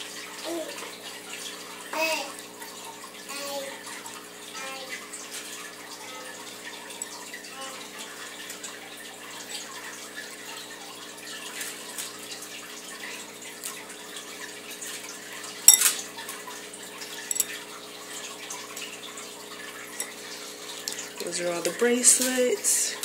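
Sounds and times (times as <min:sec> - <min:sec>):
small water splashes: 0:00.0 - 0:23.0.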